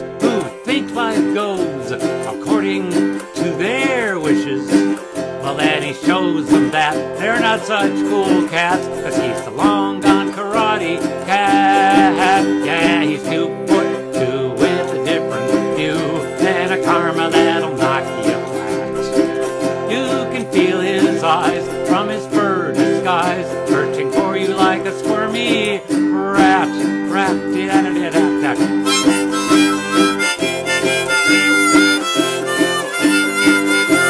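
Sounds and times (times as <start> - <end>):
man vocalizing wordlessly: 0.0 - 30.2
autoharp strummed chords: 0.0 - 34.0.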